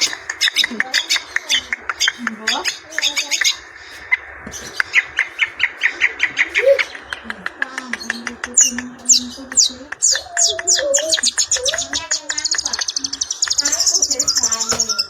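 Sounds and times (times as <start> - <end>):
shrike singing sharp chips: 0.0 - 15.0.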